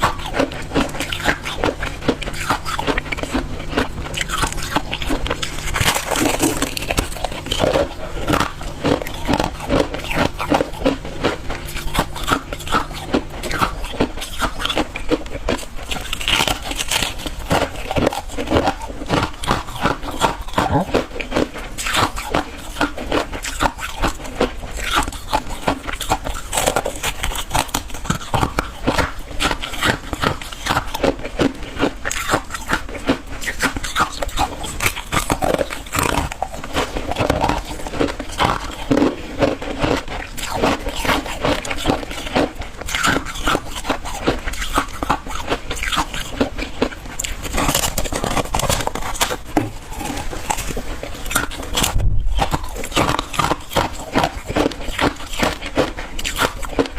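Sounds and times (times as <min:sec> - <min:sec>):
chewing crunchy ice: 0:00.0 - 0:56.9.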